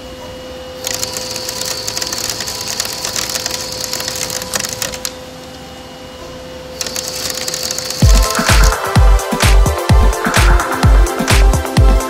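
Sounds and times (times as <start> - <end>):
machine whine: 0.0 - 12.0.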